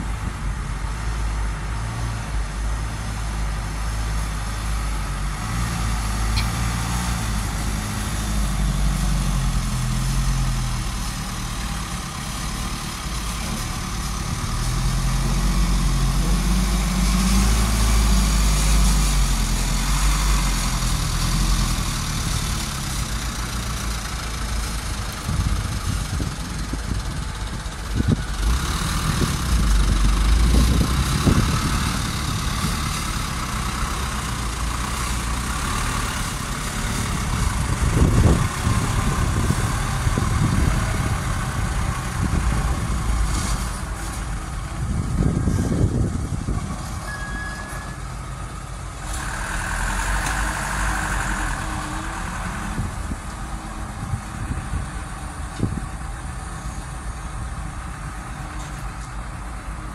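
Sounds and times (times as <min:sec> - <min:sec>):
heavy diesel machinery running: 0:00.0 - 0:59.9
truck diesel engine revving: 0:00.0 - 0:59.9.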